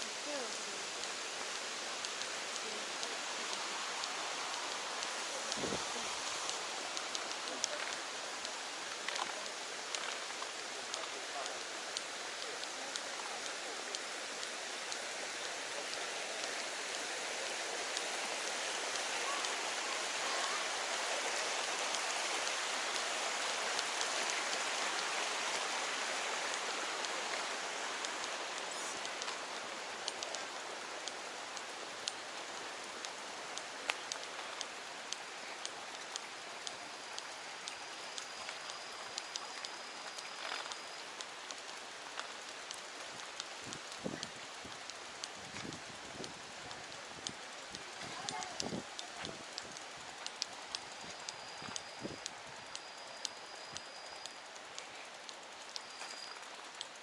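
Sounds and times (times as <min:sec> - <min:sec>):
rushing water hiss: 0:00.0 - 0:57.0
sharp ticks: 0:01.0 - 0:05.8, 0:06.4 - 0:15.2, 0:21.4 - 0:57.0.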